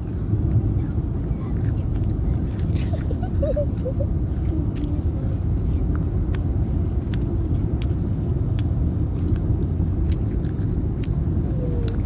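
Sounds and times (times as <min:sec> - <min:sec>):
car driving rumble: 0:00.0 - 0:12.0
person chewing soft food: 0:00.0 - 0:12.0.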